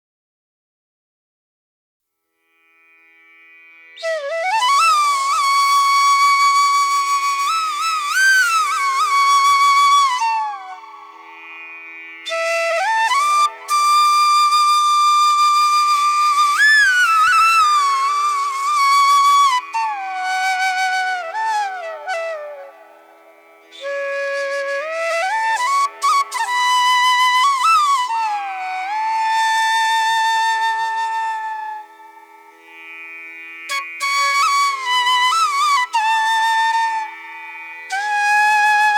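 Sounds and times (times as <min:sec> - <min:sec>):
slow flute melody: 0:04.0 - 0:11.6, 0:12.2 - 0:32.6, 0:33.7 - 0:38.9.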